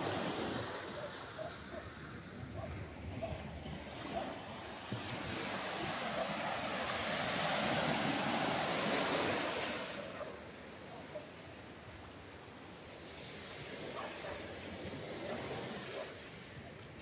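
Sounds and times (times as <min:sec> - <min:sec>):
surf washing on beach: 0:00.0 - 0:17.0.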